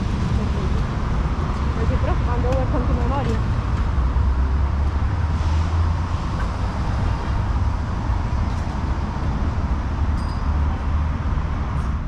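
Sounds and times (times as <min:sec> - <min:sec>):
urban traffic noise: 0:00.0 - 0:12.0.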